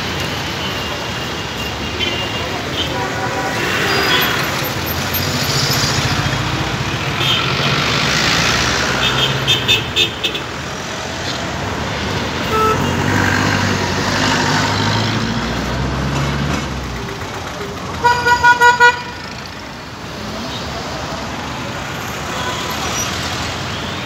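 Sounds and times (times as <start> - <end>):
street traffic engines: 0.0 - 24.0.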